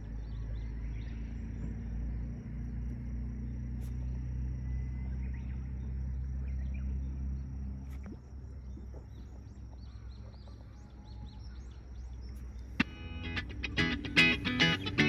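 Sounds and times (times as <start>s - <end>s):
bird chirping: 0.0s - 7.5s, 8.2s - 15.0s
low steady hum: 0.0s - 15.0s.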